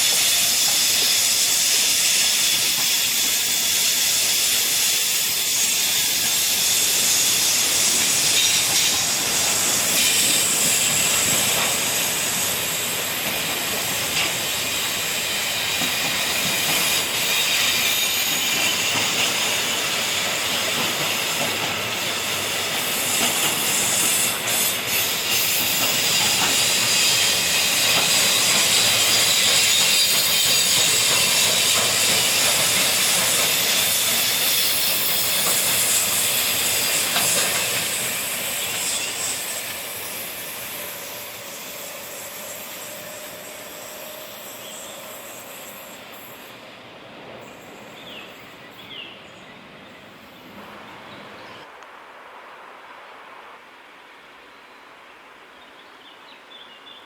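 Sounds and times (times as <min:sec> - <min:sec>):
train wheels hissing on rails: 0:00.0 - 0:51.8.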